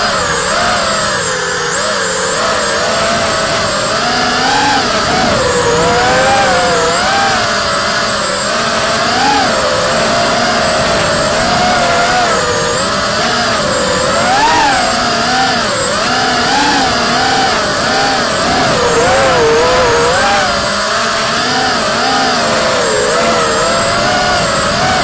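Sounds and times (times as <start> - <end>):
drone motors buzzing whine: 0.0 - 25.0.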